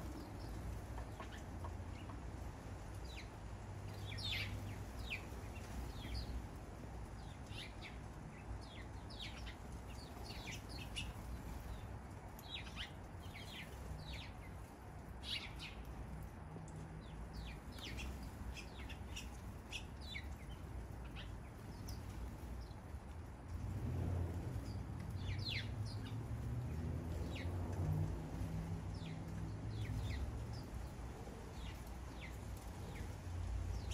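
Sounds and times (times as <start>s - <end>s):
birds chirping: 0.0s - 16.0s, 16.8s - 23.1s, 24.4s - 33.9s.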